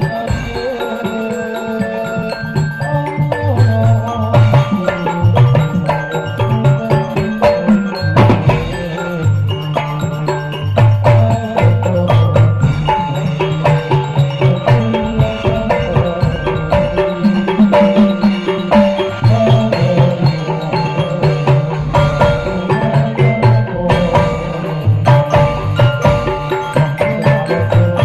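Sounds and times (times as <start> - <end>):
hand drums fast beat: 0.0 - 28.0
melodic line of repeated notes: 0.0 - 28.0.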